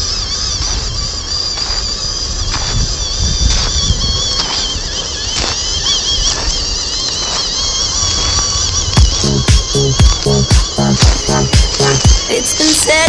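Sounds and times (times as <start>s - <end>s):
electric motor and gearbox whining: 0.0s - 13.0s.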